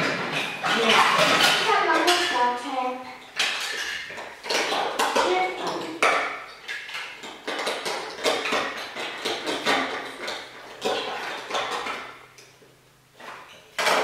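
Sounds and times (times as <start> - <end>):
plastic bricks clattering: 0.0 - 12.2.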